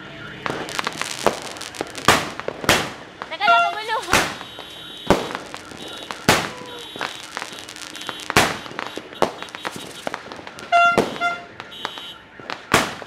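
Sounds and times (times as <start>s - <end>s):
fireworks bangs: 0.2s - 13.0s
fireworks pops and crackles: 0.4s - 13.0s.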